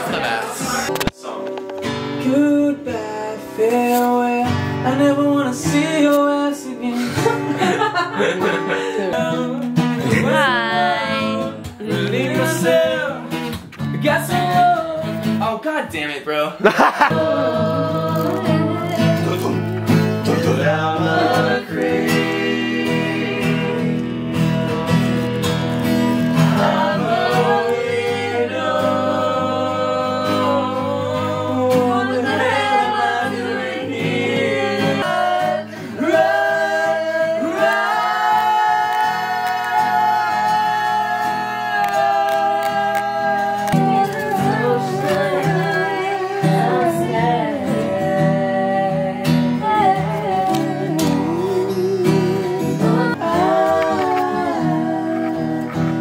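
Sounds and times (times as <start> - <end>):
person singing: 0.0 - 13.4, 16.6 - 24.1, 26.2 - 56.0
guitar: 0.0 - 56.0.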